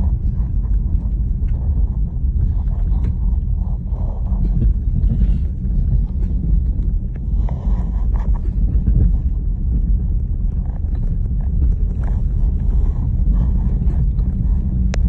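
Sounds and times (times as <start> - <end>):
car driving rumble from inside: 0.0 - 15.0.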